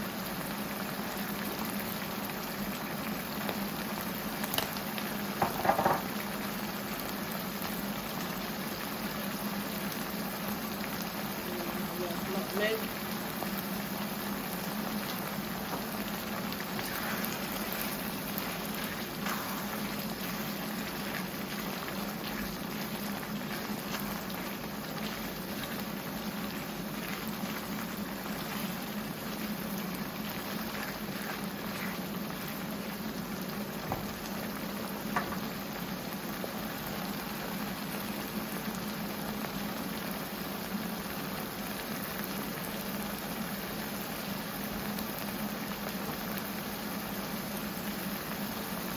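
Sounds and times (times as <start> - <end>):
stew bubbling in a pot: 0.0 - 48.9.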